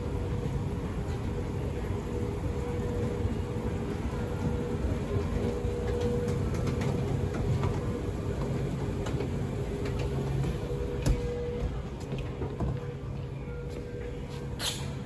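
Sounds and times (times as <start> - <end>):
escalator machine hum: 0.0 - 14.6.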